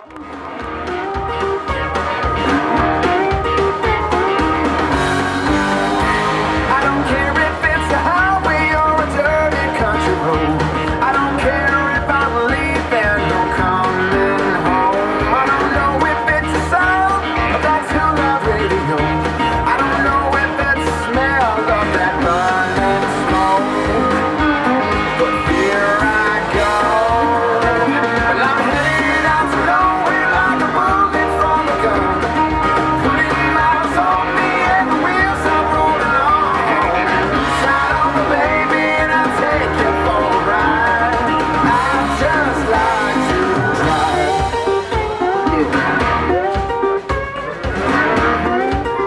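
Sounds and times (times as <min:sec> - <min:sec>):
guitar: 0:00.0 - 0:49.0
person singing: 0:00.0 - 0:49.0
steady driving beat: 0:00.0 - 0:49.0.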